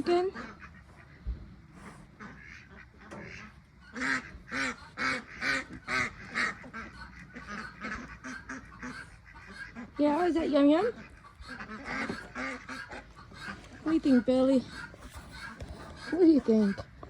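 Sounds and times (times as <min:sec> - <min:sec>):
waterfowl calling: 0:00.0 - 0:17.0.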